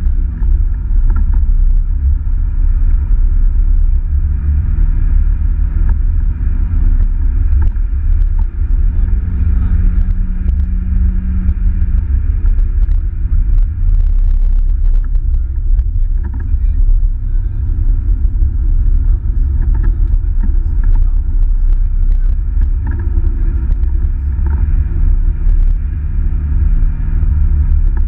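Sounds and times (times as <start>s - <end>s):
car engine under load: 0.0s - 28.0s.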